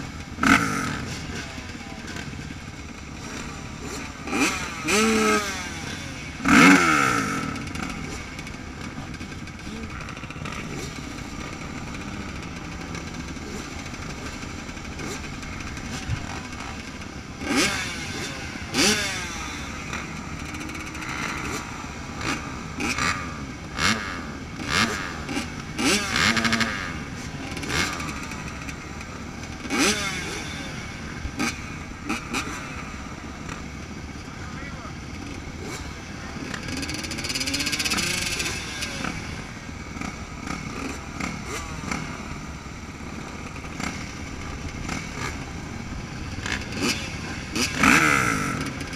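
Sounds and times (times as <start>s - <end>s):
dirt bikes idling: 0.0s - 48.9s.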